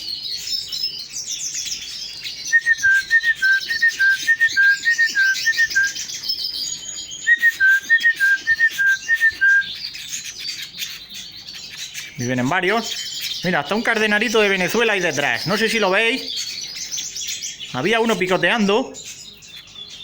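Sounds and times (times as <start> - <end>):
birds twittering: 0.0 - 20.0.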